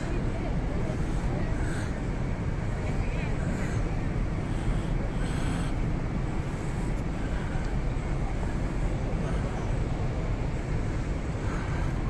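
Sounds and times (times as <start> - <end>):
city background rumble and hiss: 0.0 - 12.0.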